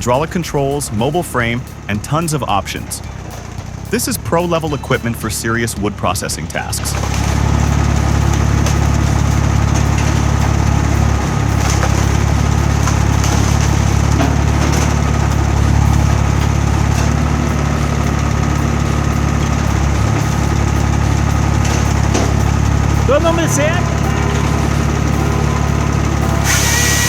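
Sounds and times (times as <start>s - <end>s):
engine droning: 0.0s - 27.0s.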